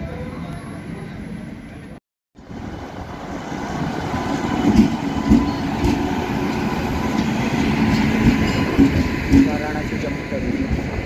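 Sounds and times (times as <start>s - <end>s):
train rolling past: 0.0s - 11.0s.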